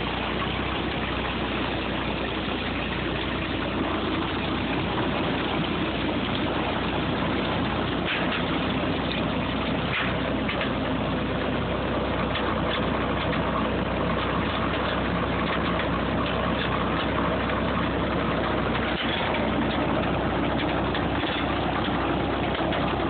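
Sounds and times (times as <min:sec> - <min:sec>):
engine running evenly: 0:00.0 - 0:23.0
hay baler mechanical din: 0:00.0 - 0:23.0.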